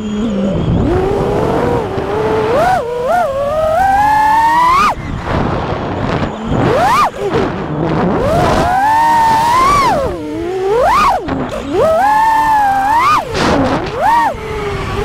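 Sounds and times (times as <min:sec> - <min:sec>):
drone motors whining: 0:00.0 - 0:15.0
rushing noise: 0:00.6 - 0:15.0.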